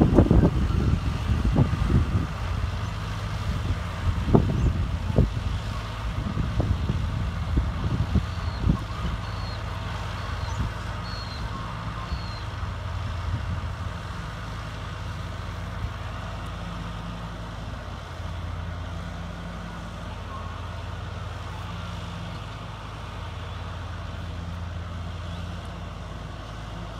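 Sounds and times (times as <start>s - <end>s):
distant tractor engine humming: 0.0s - 26.9s.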